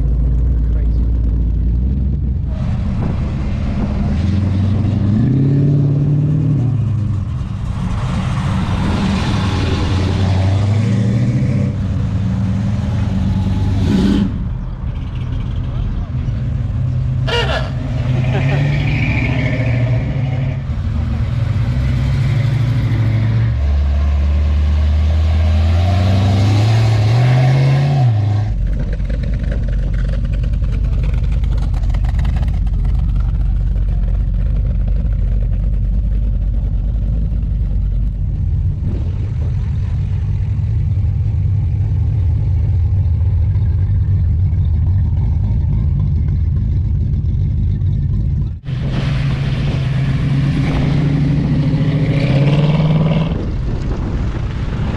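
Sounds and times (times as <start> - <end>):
car engine accelerating: 0.0 - 54.9
cars rumbling past: 0.0 - 54.9.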